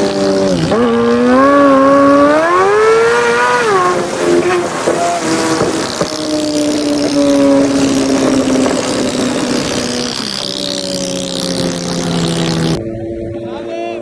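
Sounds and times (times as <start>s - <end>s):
motorcycle engine running hard: 0.0s - 13.4s
wind and road noise: 0.0s - 14.0s.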